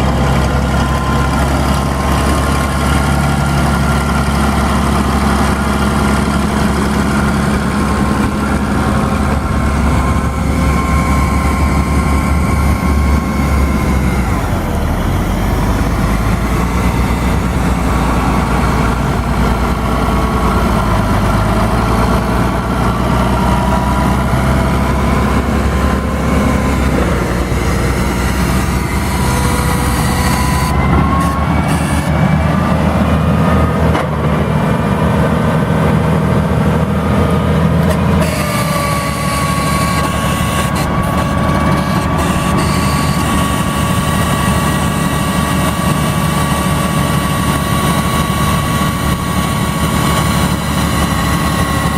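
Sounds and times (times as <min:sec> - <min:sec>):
steady whine: 0:00.0 - 0:51.9
tractor diesel engine running: 0:00.0 - 0:51.9.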